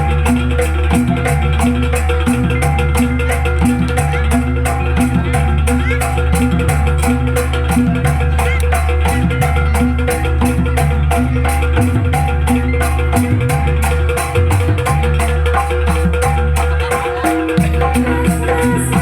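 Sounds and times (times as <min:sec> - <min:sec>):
deep sustained bass: 0:00.0 - 0:16.8
fast rattling beat: 0:00.0 - 0:19.0
metallophones ringing: 0:00.0 - 0:19.0.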